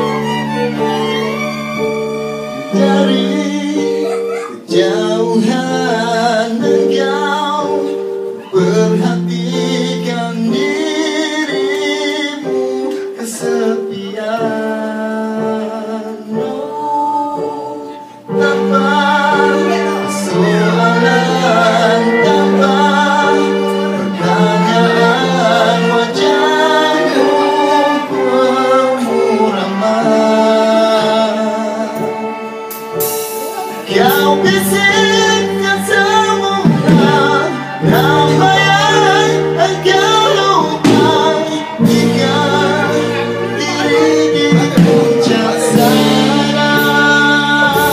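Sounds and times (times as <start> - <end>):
orchestra playing: 0.0 - 47.9
man singing into microphone: 2.6 - 32.5, 33.7 - 47.9.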